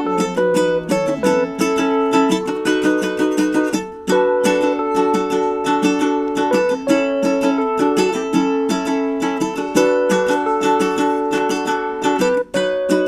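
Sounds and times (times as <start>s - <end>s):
plucked string instrument music: 0.0s - 13.0s.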